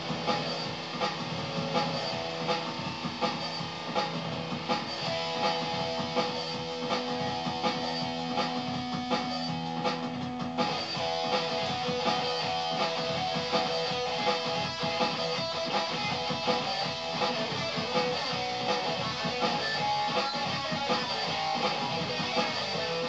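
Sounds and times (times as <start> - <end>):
electric guitar strumming: 0.0 - 23.0.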